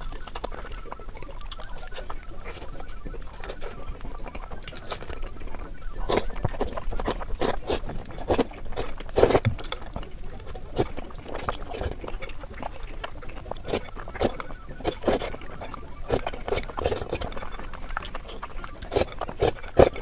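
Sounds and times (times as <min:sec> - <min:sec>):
wet chewing and lip smacking: 0:00.0 - 0:20.0.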